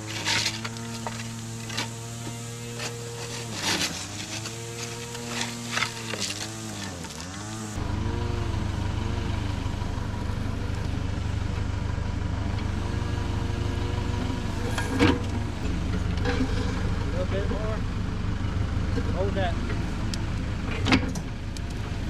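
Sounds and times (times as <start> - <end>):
heavy equipment engine running: 0.0 - 22.0.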